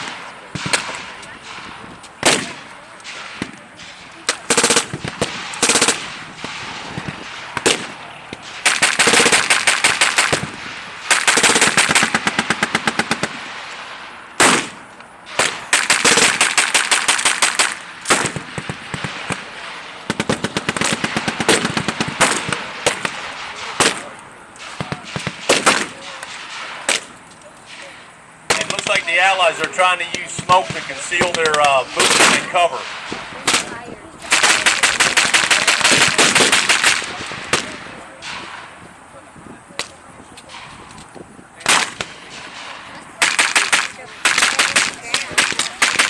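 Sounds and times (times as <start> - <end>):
machine guns firing bursts: 0.0 - 27.2, 28.5 - 38.7, 41.6 - 46.0
rifle shots cracking: 0.0 - 38.8, 41.6 - 46.0.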